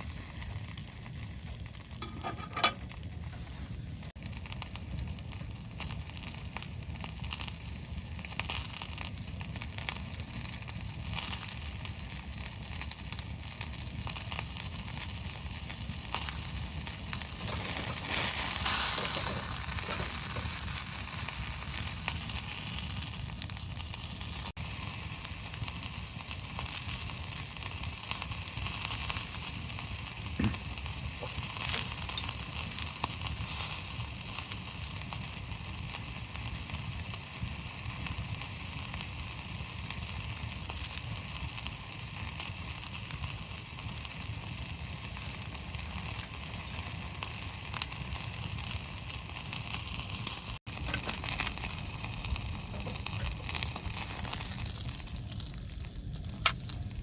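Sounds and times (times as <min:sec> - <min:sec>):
food sizzling: 0:00.0 - 0:57.0.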